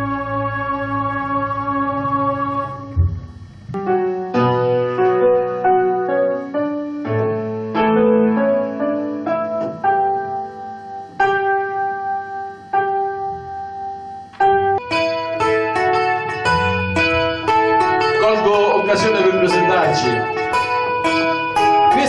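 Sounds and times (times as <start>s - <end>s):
slow piano notes and chords: 0.0s - 22.0s.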